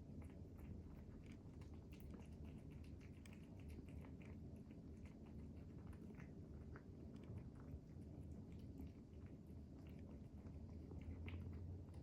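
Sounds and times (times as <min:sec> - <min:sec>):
cat chewing wet food: 0:00.0 - 0:12.0.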